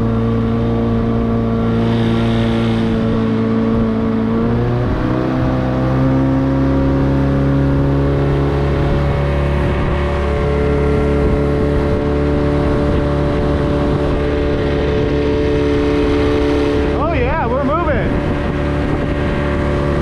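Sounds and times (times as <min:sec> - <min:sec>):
outboard motor running at high speed: 0:00.0 - 0:20.0.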